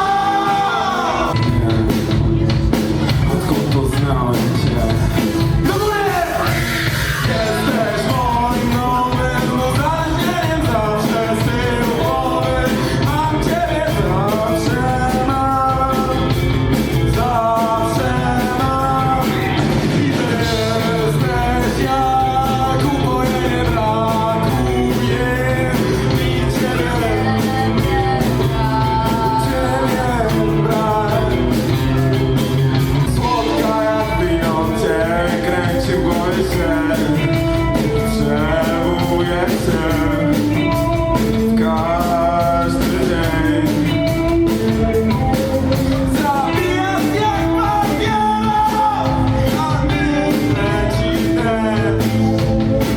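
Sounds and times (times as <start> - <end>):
electric guitar: 0.0 - 52.9
person singing: 0.0 - 52.9
rock band playing: 0.0 - 52.9.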